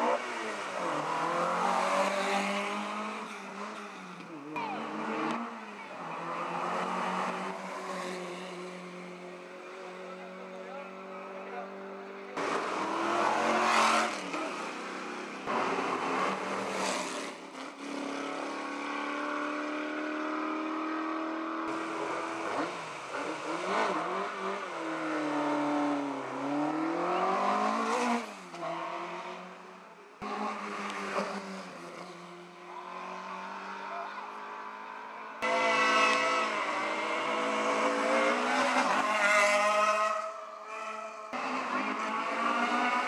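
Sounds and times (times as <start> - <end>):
race car engines revving: 0.0 - 43.0.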